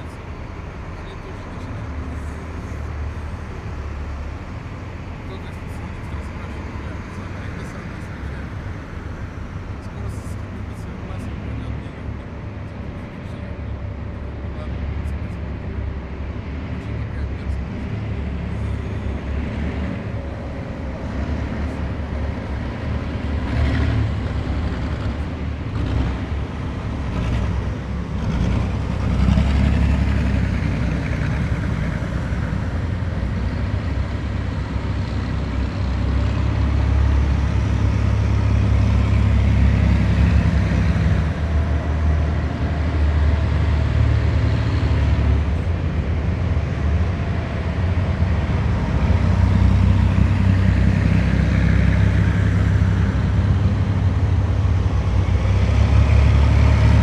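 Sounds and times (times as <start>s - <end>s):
heavy vehicles engine rumble: 0.0s - 57.0s.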